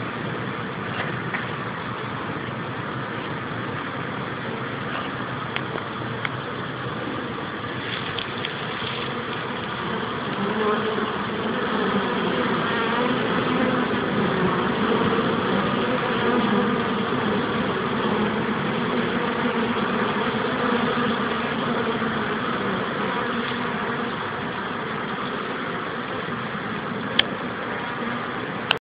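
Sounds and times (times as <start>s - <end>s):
honeybees buzzing: 0.0s - 28.8s.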